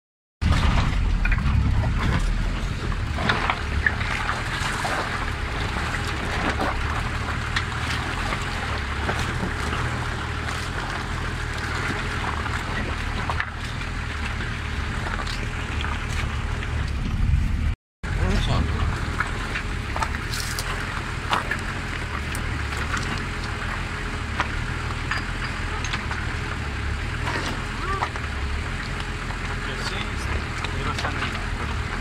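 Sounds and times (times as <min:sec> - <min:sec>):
engine running at low revs: 0:00.4 - 0:32.0
knocks and rattles of vehicle: 0:00.4 - 0:32.0.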